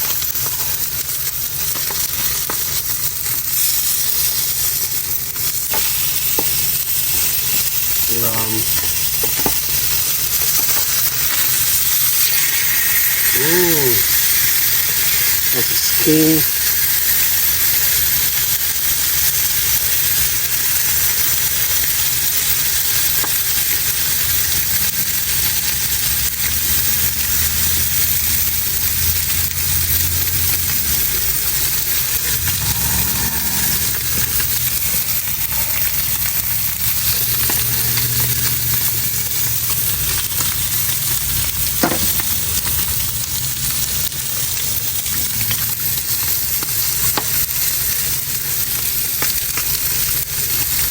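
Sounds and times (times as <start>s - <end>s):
fish fillet sizzling in fat: 0.0s - 50.9s.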